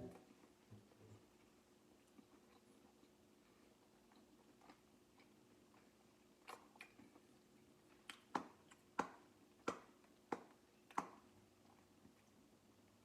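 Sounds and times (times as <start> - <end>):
faint steady hum: 0.0 - 13.0
wet mouth chewing smacks: 0.1 - 13.0.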